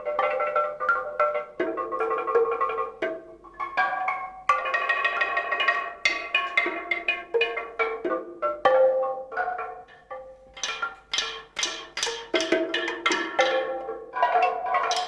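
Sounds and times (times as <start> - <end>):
tuned percussion notes ringing: 0.0 - 15.0.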